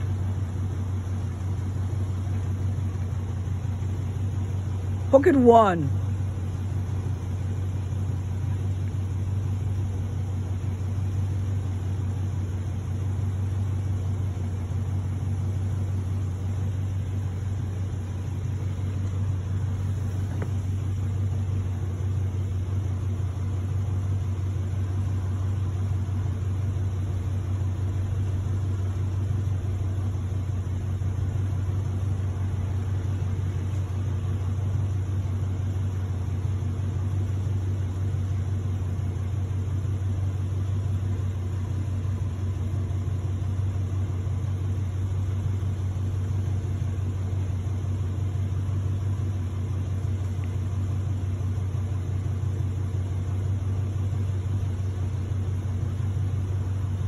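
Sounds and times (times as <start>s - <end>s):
pickup engine idling: 0.0s - 57.0s.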